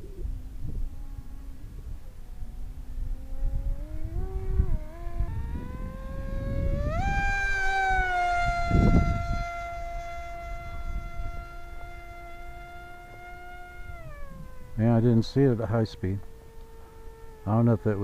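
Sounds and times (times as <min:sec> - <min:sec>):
electric motor and propeller whining: 0:00.0 - 0:18.0
wind buffeting microphone: 0:00.0 - 0:18.0.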